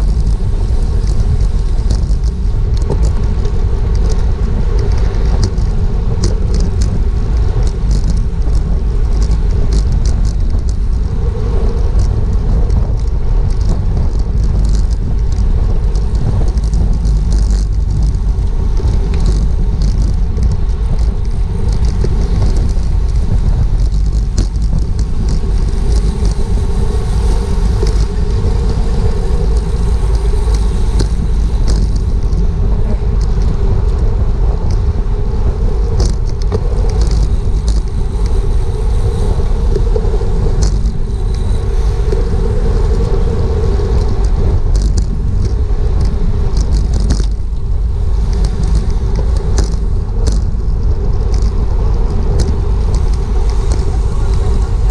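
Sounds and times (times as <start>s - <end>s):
bicycle clicks and rattles: 0.0s - 54.9s
wind and road noise: 0.0s - 54.9s.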